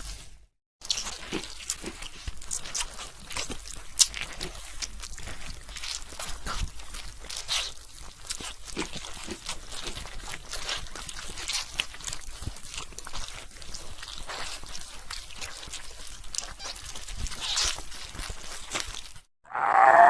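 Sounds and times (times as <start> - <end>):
wet squelching and crunching: 0.8 - 19.3.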